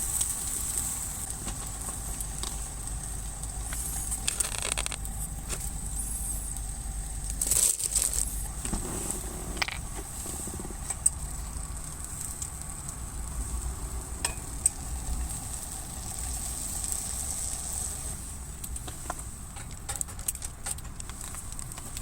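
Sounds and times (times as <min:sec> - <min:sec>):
campfire crackling: 0:00.0 - 0:22.0
sharp fire pops: 0:00.0 - 0:22.0
steady fire hiss: 0:00.0 - 0:22.0.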